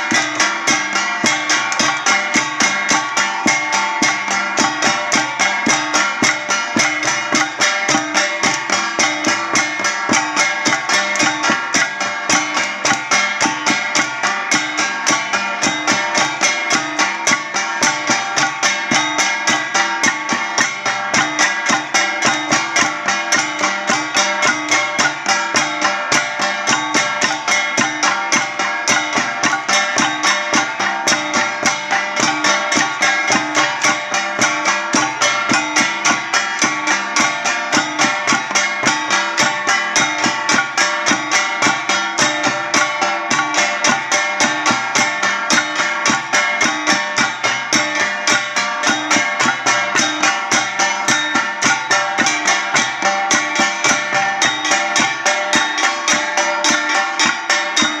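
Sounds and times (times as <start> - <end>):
folk music with struck percussion: 0.0 - 58.0.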